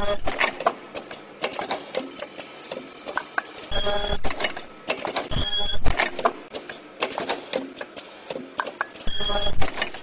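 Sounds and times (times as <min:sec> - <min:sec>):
pneumatic machine clicks and knocks: 0:00.2 - 0:03.5, 0:04.2 - 0:10.0.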